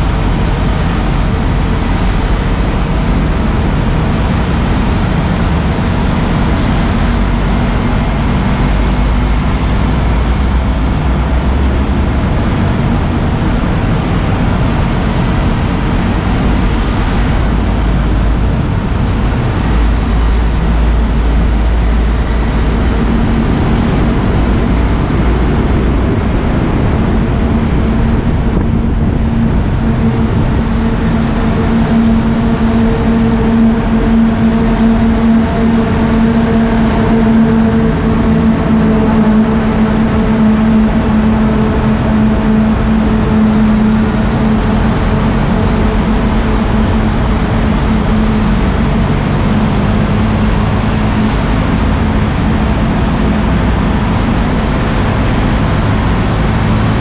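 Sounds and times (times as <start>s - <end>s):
echoing traffic noise: 0.0s - 57.0s
motorcycle engine cruising: 0.0s - 57.0s
wind rumble on microphone: 0.0s - 57.0s.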